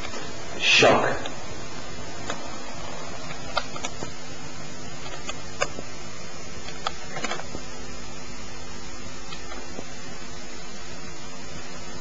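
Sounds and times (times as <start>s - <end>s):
camcorder hiss and hum: 0.0s - 12.0s.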